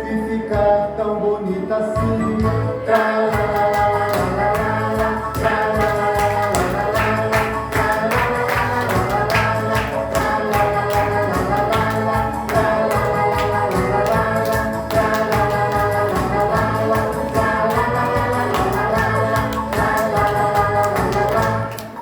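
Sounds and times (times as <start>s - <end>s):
children's song instrumental music: 0.0s - 22.0s.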